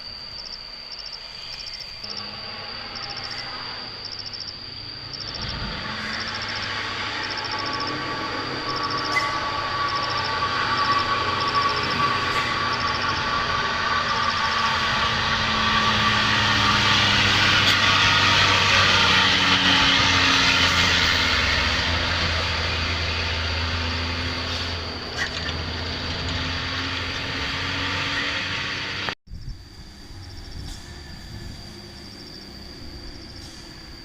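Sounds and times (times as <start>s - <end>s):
truck engine running low: 4.0s - 34.0s.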